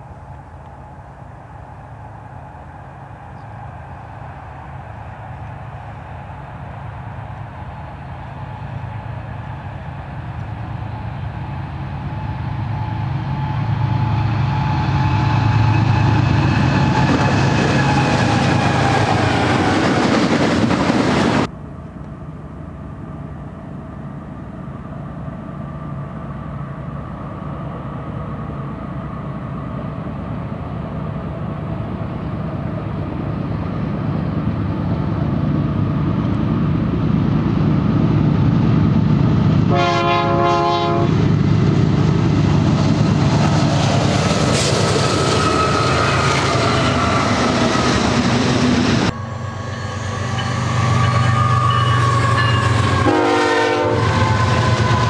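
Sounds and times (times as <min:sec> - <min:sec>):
diesel locomotives working hard: 0:00.0 - 0:55.0.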